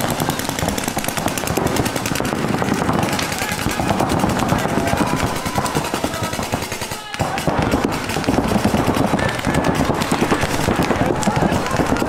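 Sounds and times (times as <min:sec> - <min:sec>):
rapid paintball marker fire: 0:00.0 - 0:12.0.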